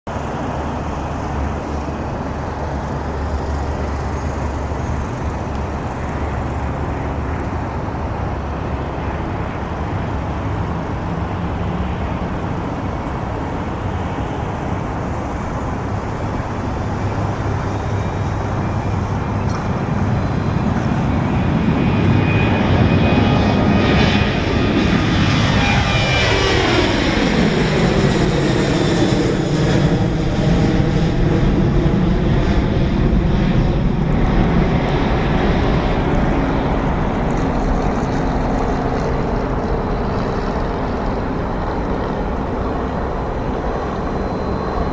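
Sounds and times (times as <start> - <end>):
jet engines at takeoff: 0.1 - 44.9.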